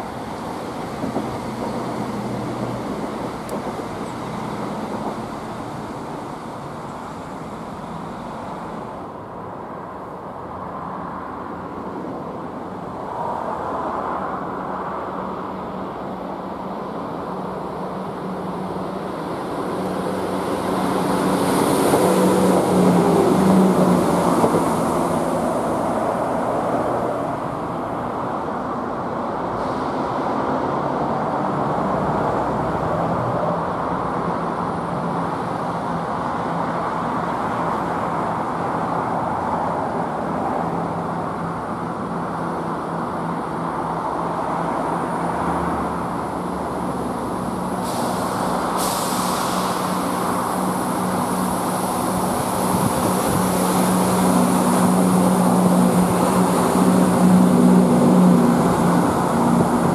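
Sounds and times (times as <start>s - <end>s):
diesel train engine humming: 0.0s - 59.9s.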